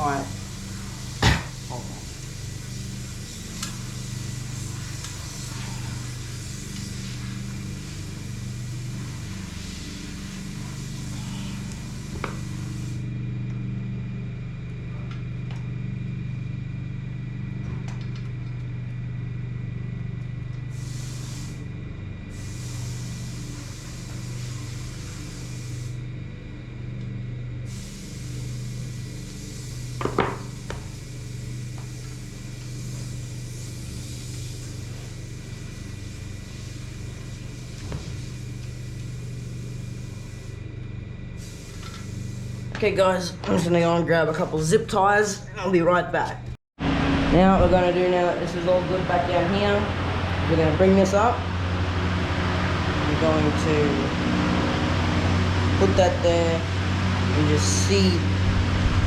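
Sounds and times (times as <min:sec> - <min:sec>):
lawn mower engine running: 0:00.0 - 0:43.8, 0:46.8 - 0:59.0.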